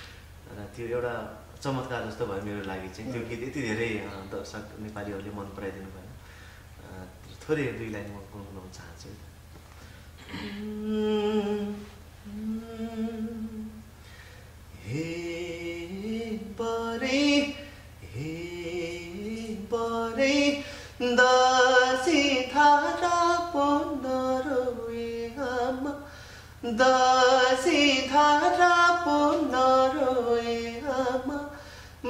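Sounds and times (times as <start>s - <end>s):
man singing unaccompanied: 0.4s - 6.2s, 10.5s - 13.8s, 14.7s - 31.7s.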